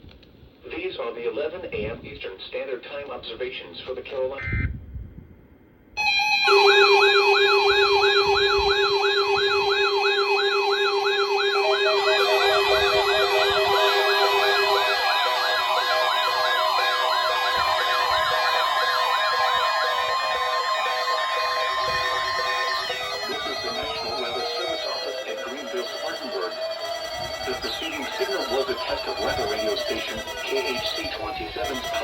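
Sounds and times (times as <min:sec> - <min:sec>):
warbling alarm: 0:06.0 - 0:32.0
weather radio alert alarms: 0:06.0 - 0:32.0.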